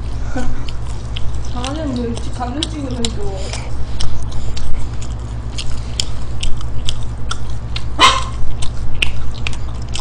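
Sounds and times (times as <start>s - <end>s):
steady low hum: 0.0s - 10.0s
wet chewing clicks and smacks: 0.0s - 10.0s.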